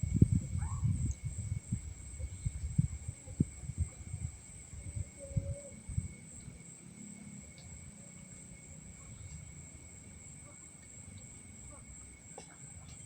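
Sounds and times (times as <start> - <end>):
night insect chorus: 0.0 - 13.0.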